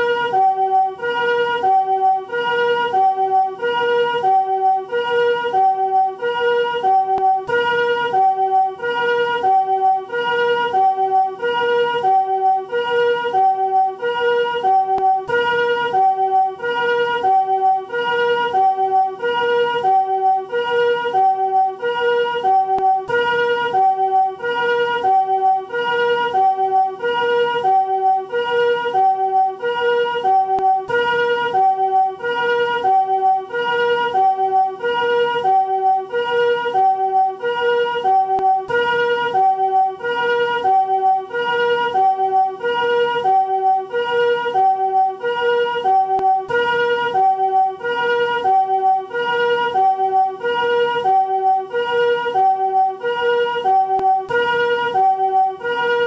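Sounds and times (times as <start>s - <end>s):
two-tone ambulance siren: 0.0s - 56.0s.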